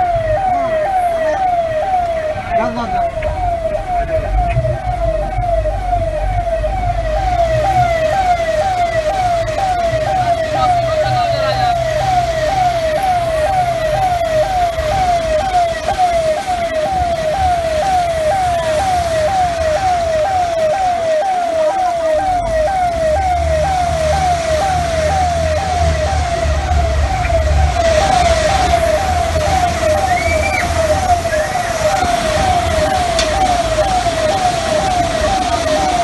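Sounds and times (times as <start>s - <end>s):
vehicle engine rumble: 0.0s - 21.1s, 22.0s - 36.0s
emergency siren wailing: 0.0s - 36.0s.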